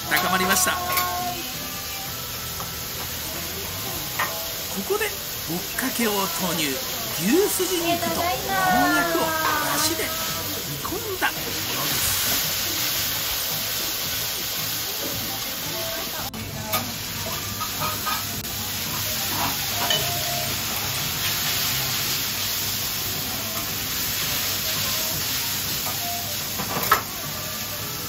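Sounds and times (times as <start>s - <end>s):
noodles sizzling on griddle: 0.0s - 28.0s.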